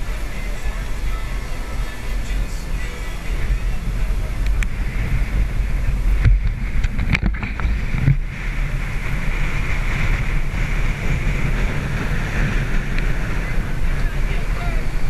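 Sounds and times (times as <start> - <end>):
water rushing past hulls: 0.0 - 15.0
wind buffeting the microphone: 0.0 - 15.0.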